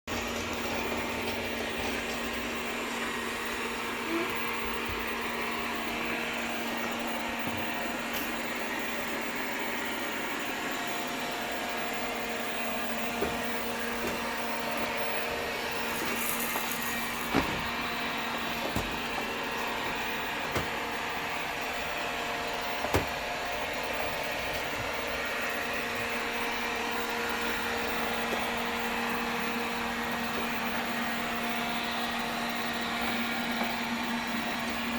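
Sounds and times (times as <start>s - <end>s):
vacuum cleaner humming: 0.0s - 34.9s.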